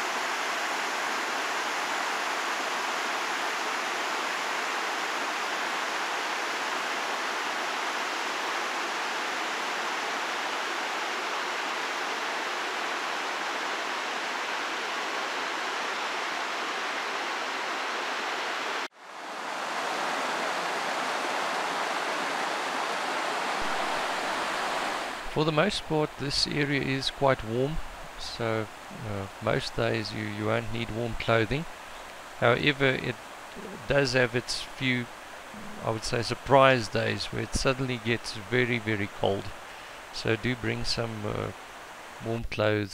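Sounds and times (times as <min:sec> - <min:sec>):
stream cascading over rocks: 0:00.0 - 0:42.2.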